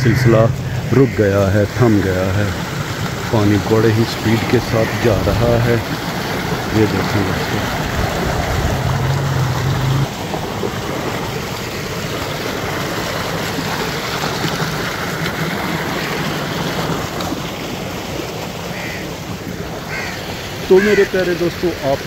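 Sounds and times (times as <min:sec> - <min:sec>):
water gushing into pool: 0:00.0 - 0:22.0.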